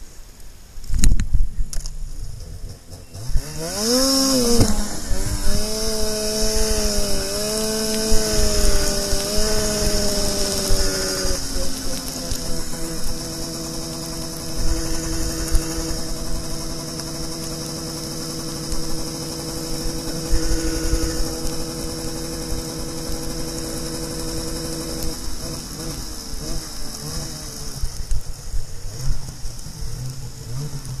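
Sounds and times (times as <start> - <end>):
constant high hiss: 0.0 - 31.0
snowmobile engine idling: 1.8 - 31.0.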